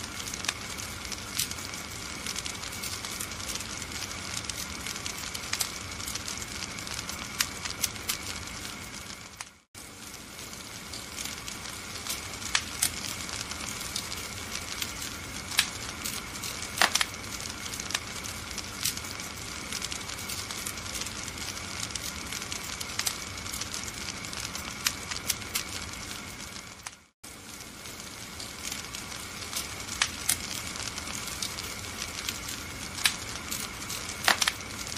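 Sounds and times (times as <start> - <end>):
steady hiss of fire: 0.0 - 34.9
wood fire crackling: 0.0 - 34.9.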